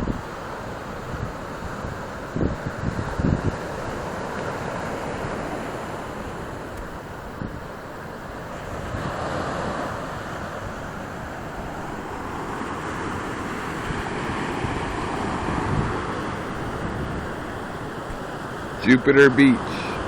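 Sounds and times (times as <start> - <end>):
wind buffeting microphone: 0.0 - 18.8
ocean waves breaking: 0.0 - 20.0.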